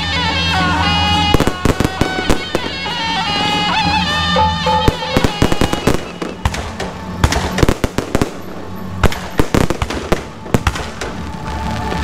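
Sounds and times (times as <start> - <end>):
fireworks bangs: 0.6 - 12.0.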